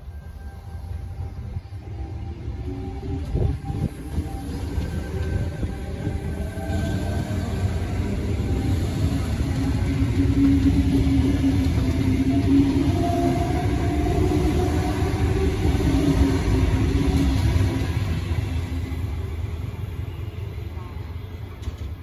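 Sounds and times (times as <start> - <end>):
electric train rumbling past: 0.0 - 22.0.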